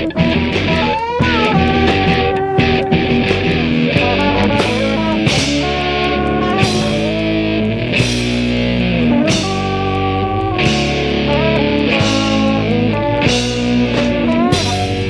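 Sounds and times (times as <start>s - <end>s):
rock music with electric guitar: 0.0s - 15.0s.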